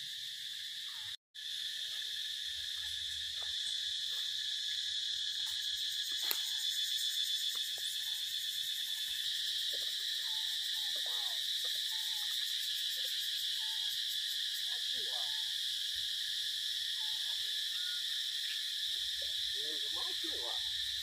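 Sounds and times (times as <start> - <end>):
forest insect chorus drone: 0.0 - 21.0.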